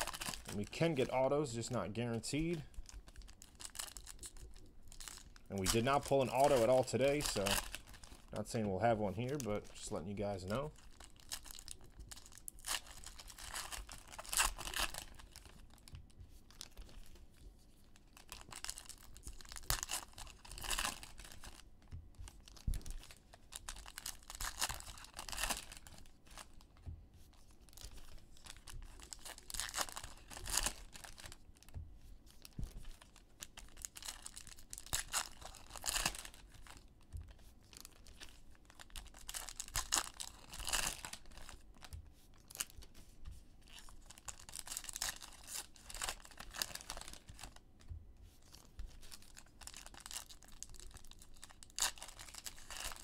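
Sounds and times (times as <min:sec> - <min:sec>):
foil wrappers tearing and crinkling: 0:00.0 - 0:15.9, 0:18.0 - 0:21.6, 0:22.4 - 0:26.7, 0:27.7 - 0:31.6, 0:32.3 - 0:37.0, 0:37.7 - 0:42.8, 0:43.7 - 0:47.6, 0:48.4 - 0:53.0.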